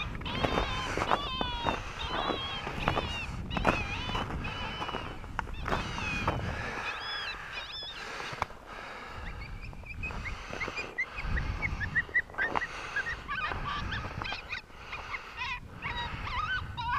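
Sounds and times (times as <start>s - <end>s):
high-pitched animal calls: 0.0s - 8.4s, 9.1s - 16.9s.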